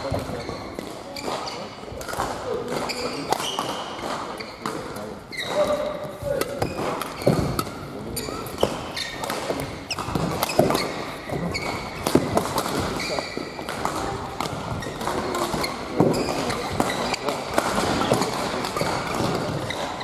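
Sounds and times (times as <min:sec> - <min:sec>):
shoes squeaking on floor: 0:00.0 - 0:01.9, 0:02.7 - 0:20.0
racket hitting shuttlecock: 0:00.1 - 0:20.0.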